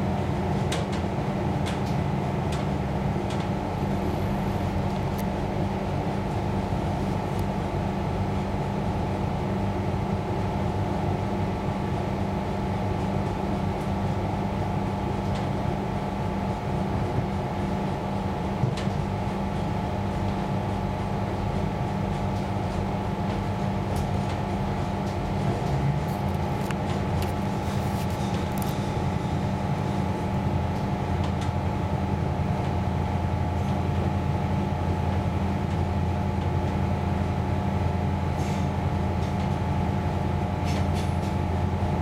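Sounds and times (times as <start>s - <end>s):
wheels rumbling on track: 0.0s - 9.1s, 12.7s - 42.0s
train carriage hum with held tones: 0.0s - 42.0s.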